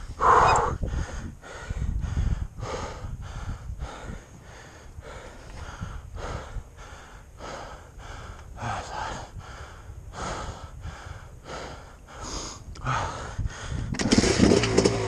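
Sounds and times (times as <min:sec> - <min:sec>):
person panting hard: 0:00.0 - 0:13.9.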